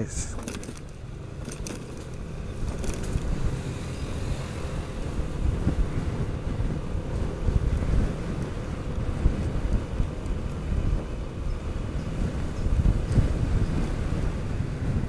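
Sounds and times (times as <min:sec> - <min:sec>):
scooter engine drone: 0:00.0 - 0:15.0
wind buffeting microphone: 0:00.0 - 0:15.0.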